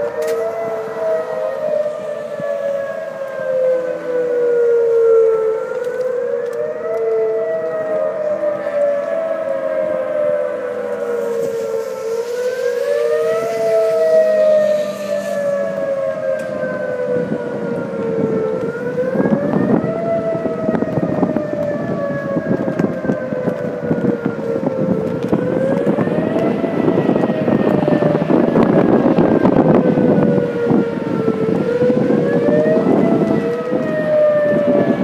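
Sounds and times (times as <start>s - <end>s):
warning siren wailing: 0.0s - 35.0s
wind gusts on microphone: 0.0s - 35.0s.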